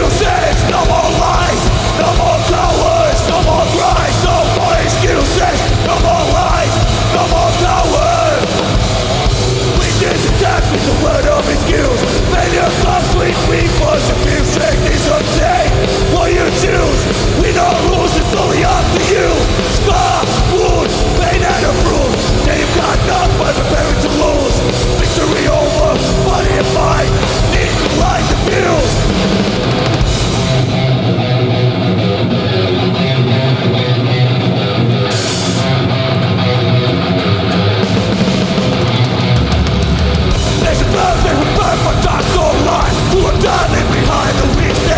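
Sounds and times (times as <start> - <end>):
punk band playing live: 0.0 - 44.9.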